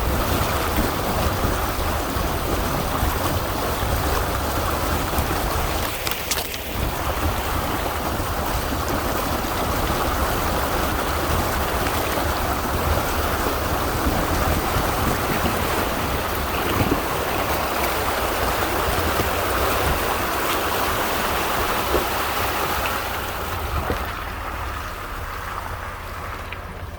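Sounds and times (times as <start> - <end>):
low engine rumble: 0.0 - 26.9
water rushing and splashing: 0.0 - 26.9.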